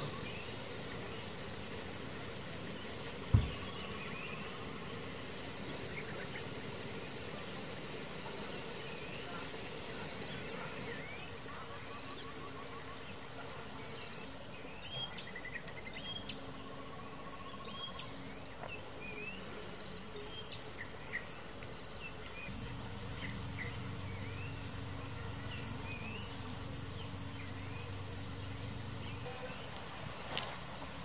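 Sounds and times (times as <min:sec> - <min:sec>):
birds chirping: 0:00.0 - 0:31.0
insects trilling: 0:00.0 - 0:31.0
low steady hum: 0:00.0 - 0:31.0.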